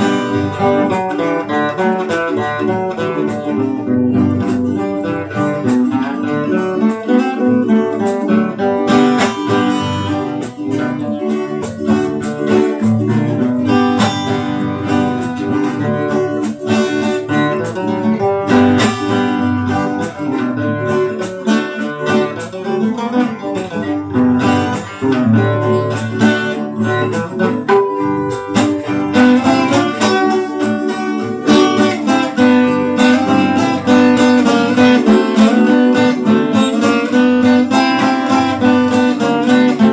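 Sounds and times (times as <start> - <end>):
acoustic guitars playing: 0.0 - 39.9.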